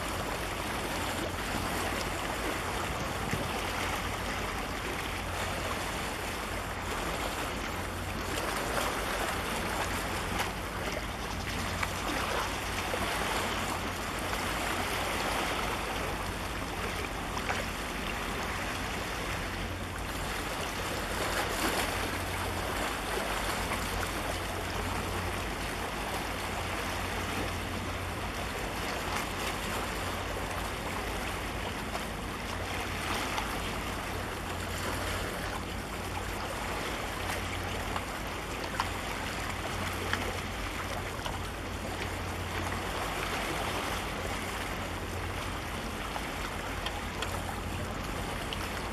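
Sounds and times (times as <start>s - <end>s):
water and waves rushing: 0.0s - 48.9s.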